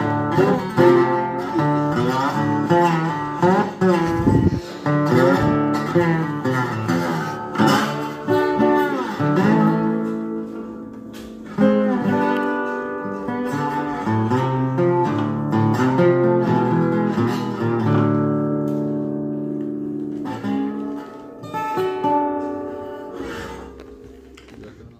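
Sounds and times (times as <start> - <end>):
resonator guitar slide picking: 0.0 - 24.9.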